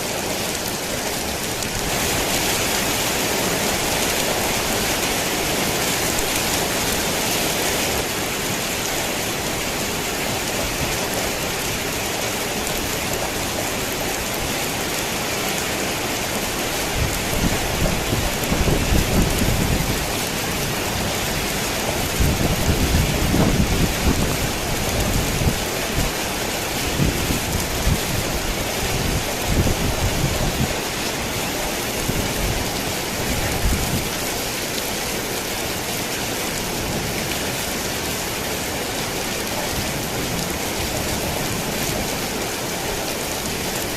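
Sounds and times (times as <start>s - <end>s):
heavy rain on a tin roof: 0.0s - 43.9s.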